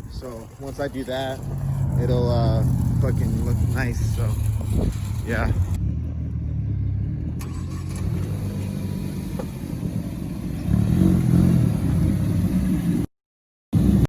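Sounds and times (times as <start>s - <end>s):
car engine rumbling: 0.0s - 13.1s.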